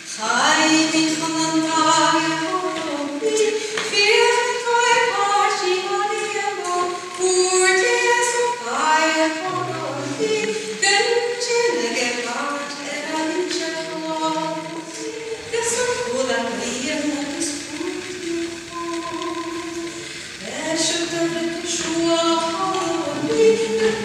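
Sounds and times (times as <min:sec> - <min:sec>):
woman singing unaccompanied: 0:00.0 - 0:24.0.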